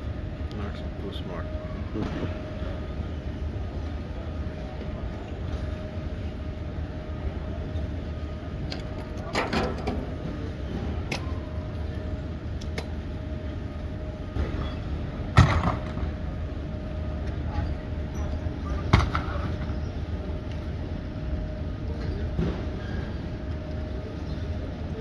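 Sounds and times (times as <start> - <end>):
baggage carousel rumble: 0.0 - 25.0
faint steady hum: 0.0 - 25.0.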